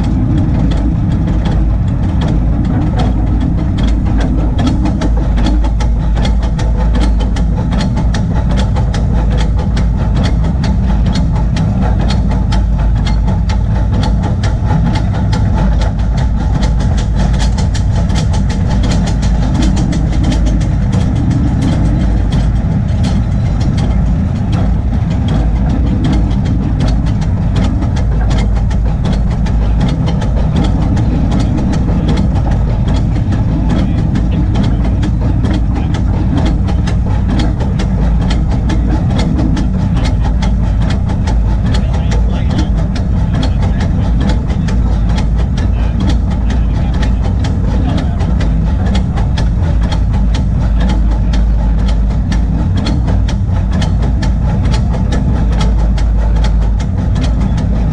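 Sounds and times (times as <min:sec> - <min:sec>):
rapid clicking of wheels on track: 0:00.0 - 0:57.9
steam locomotive rumble: 0:00.0 - 0:57.9.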